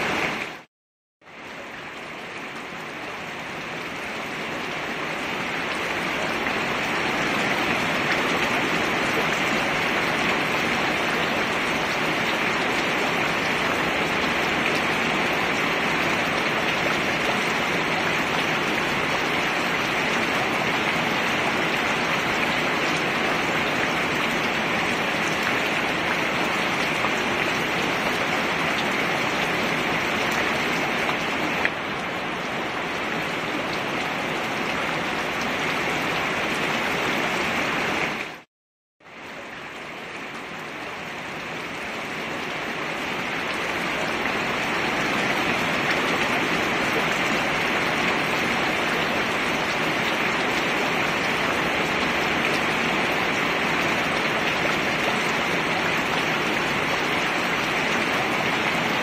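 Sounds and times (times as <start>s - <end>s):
rain on a plastic lid: 0.0s - 38.4s, 39.0s - 59.0s.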